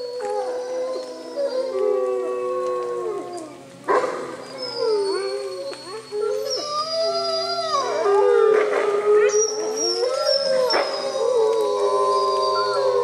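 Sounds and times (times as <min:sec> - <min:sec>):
wolves howling: 0:00.0 - 0:13.0.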